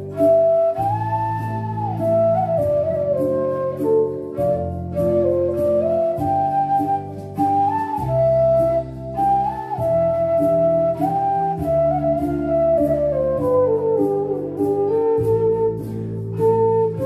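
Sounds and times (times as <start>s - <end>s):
flute playing folk melody: 0.0s - 17.0s
low accompaniment notes: 0.0s - 17.0s.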